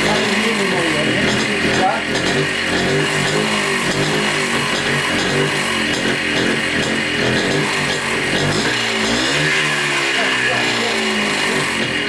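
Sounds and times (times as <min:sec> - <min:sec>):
two-stroke engine running fast: 0:00.0 - 0:12.0.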